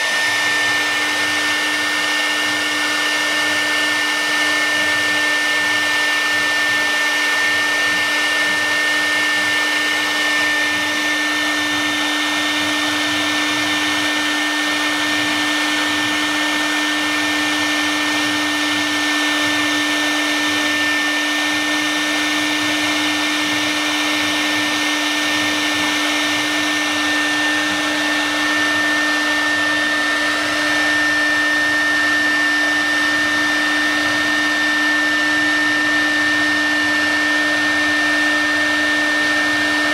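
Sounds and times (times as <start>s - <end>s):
wood router spindle whine: 0.0s - 39.9s.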